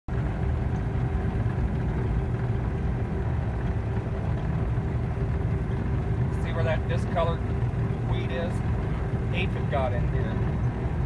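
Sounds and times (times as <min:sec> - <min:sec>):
combine harvester engine drone: 0:00.1 - 0:11.0.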